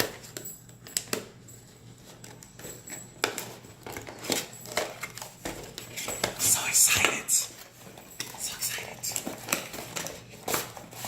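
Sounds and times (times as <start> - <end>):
packaging rustle: 2.0 - 11.0.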